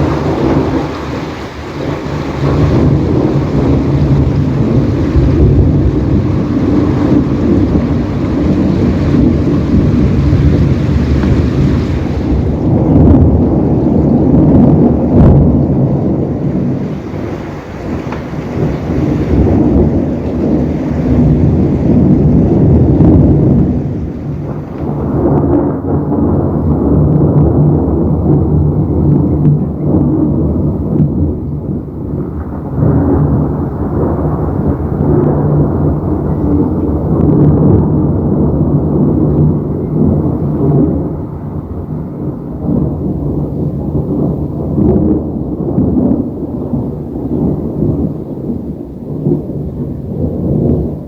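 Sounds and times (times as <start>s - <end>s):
rolling thunder: 0.0s - 51.0s.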